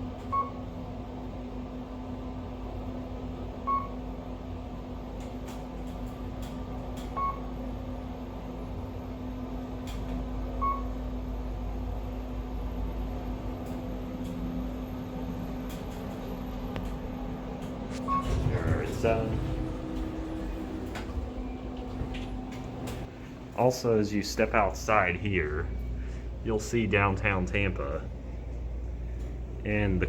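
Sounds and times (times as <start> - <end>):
elevator hum and rumble: 0.0 - 30.0.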